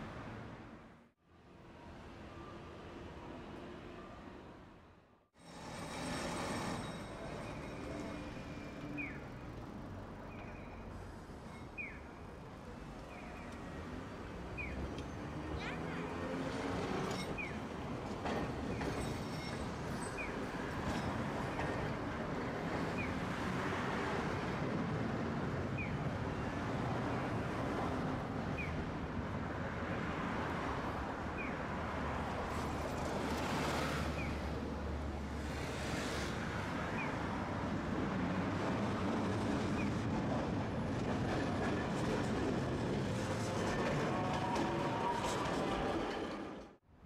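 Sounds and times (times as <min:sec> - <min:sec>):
tram passing: 0:05.4 - 0:46.8.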